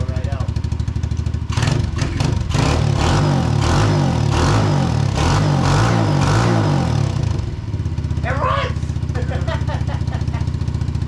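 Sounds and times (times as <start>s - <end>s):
dirt bike engine revving: 1.5s - 10.5s.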